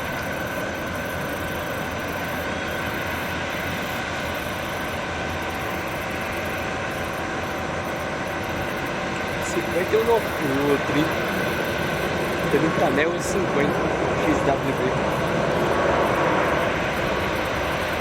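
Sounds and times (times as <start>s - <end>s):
jet engine rush: 0.0s - 18.0s
whining tones: 0.0s - 18.0s.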